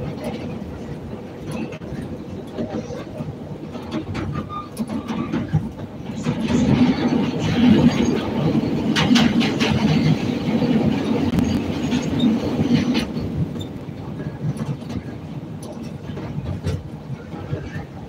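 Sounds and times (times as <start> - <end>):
passing train: 0.0 - 18.0
train rumbling along track: 0.0 - 18.0.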